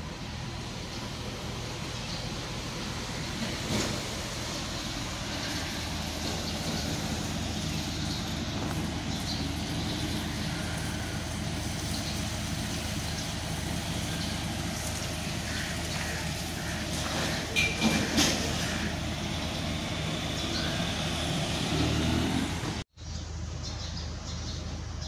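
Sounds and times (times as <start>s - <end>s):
low street rumble: 0.0s - 25.0s.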